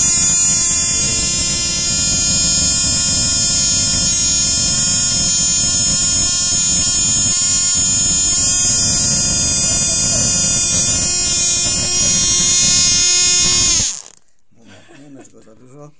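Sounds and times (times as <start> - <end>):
model engine high-pitched whine: 0.0 - 14.2.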